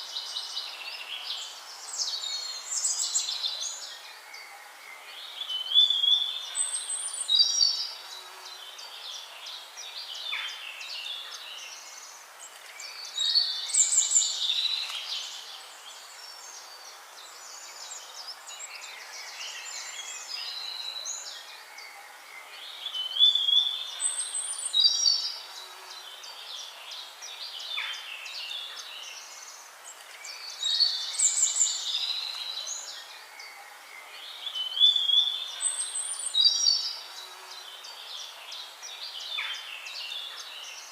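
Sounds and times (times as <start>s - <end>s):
small birds singing and chirping: 0.0s - 40.9s.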